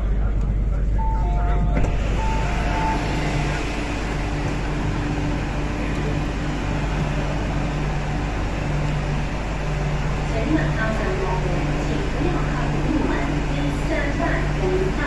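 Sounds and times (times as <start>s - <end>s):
low drone: 0.0s - 15.0s
passengers walking and murmuring: 0.0s - 15.0s
ventilation hum: 0.0s - 15.0s.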